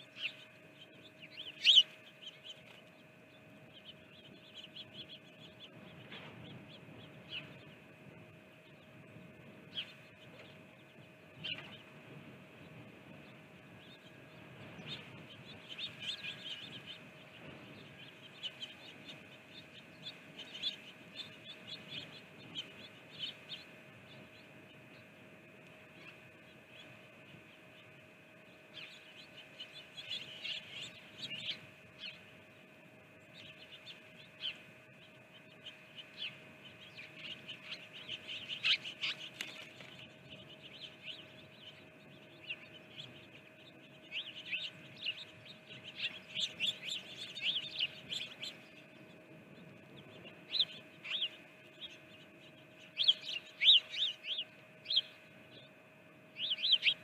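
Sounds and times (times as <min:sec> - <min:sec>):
faint steady tone: 0:00.0 - 0:57.0
songbirds chirping: 0:00.0 - 0:57.0.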